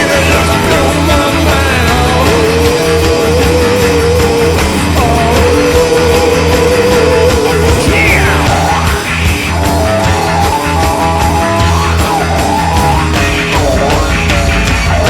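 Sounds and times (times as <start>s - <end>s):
instrumental heavy rock music: 0.0s - 15.0s.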